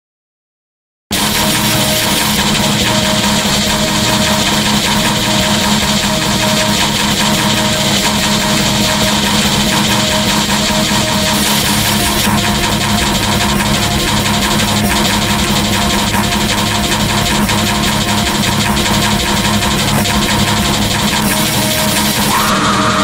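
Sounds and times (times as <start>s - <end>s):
distorted guitars and drums: 1.1s - 23.0s.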